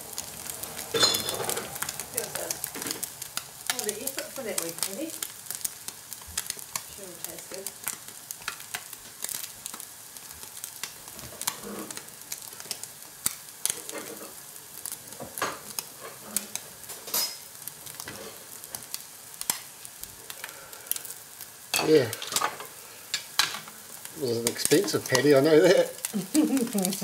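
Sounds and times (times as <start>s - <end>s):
fritter sizzling and crackling: 0.0s - 27.0s.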